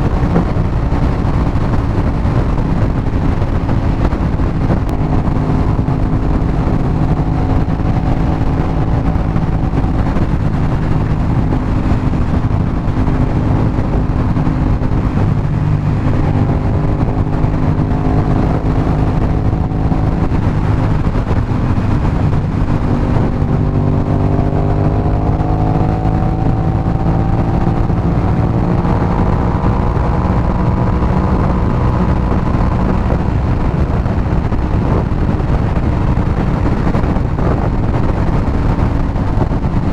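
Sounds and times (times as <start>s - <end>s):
motorcycle engine accelerating: 0.0s - 39.9s
wind noise: 0.0s - 39.9s.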